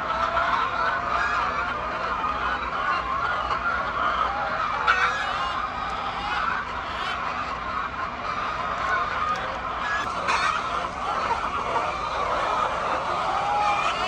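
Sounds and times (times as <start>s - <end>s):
poultry clucking and squawking: 0.0s - 14.0s.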